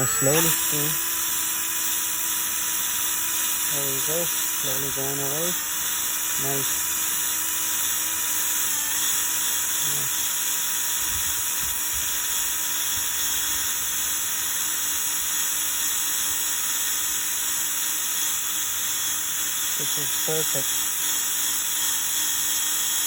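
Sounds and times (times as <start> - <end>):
electric drill whining: 0.0 - 23.0.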